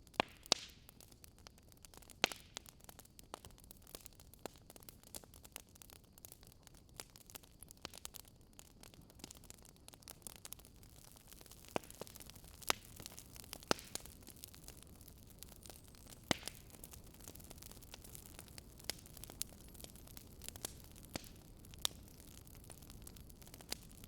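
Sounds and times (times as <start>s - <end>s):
faint steady hiss: 0.0s - 24.0s
wood fire crackling: 0.0s - 24.0s.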